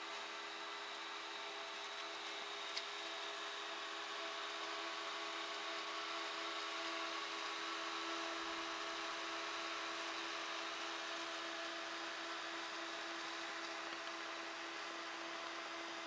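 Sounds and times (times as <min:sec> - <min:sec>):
computer fan whirring: 0:00.0 - 0:16.0.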